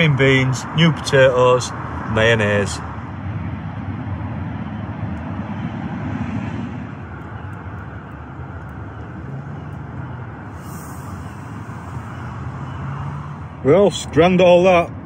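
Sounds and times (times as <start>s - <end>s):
loud vehicle passing: 0.0s - 15.0s
road traffic rumble: 0.0s - 15.0s.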